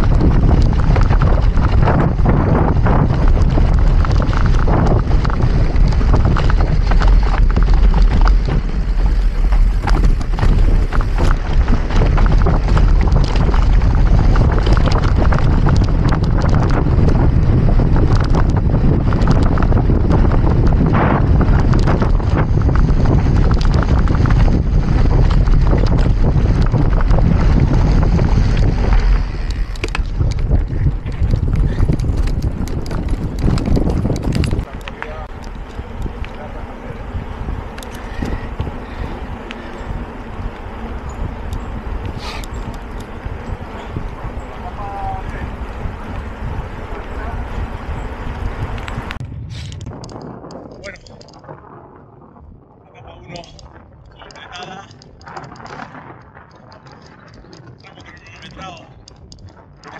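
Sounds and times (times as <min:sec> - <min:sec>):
bike rattling and knocking: 0:00.0 - 0:52.4, 0:53.0 - 0:59.9
wind buffeting microphone: 0:00.0 - 0:59.9.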